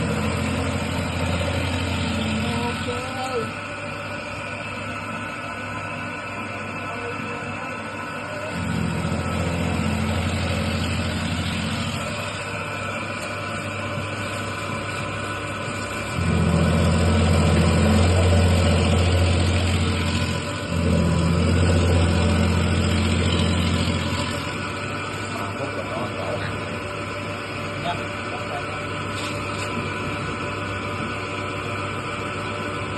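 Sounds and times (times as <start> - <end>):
motor hum: 0.0 - 32.9.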